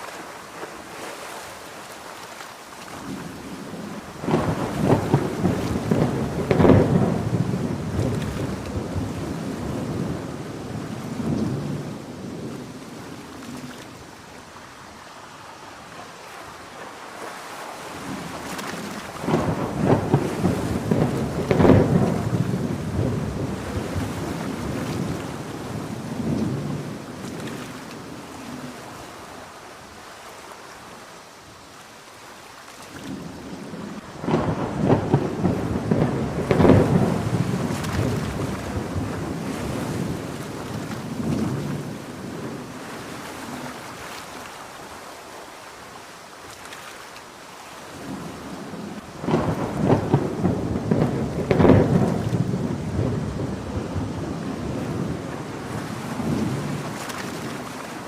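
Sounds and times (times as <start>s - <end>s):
heavy rain: 0.0s - 58.0s
rolling thunder or surf: 2.9s - 31.0s, 32.9s - 46.0s, 47.8s - 58.0s.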